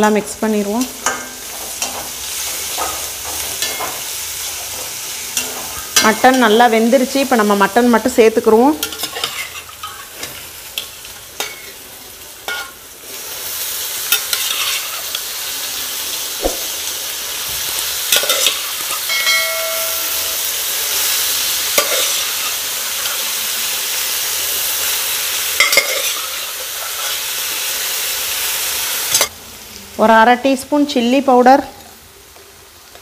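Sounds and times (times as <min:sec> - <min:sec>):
meat sizzling in oil: 0:00.0 - 0:33.0.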